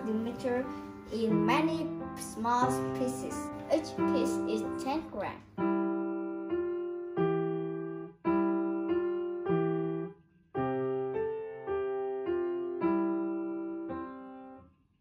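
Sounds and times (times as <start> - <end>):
slow piano chords: 0.0 - 14.6.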